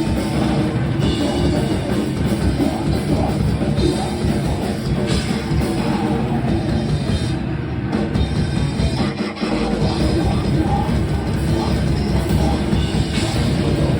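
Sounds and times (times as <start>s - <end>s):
heavy rock band playing live: 0.0s - 13.9s.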